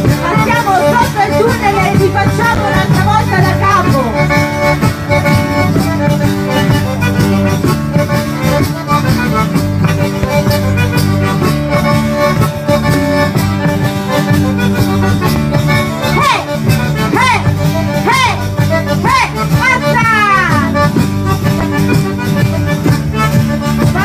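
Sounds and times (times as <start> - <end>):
music with chords and percussion beat: 0.0 - 24.0.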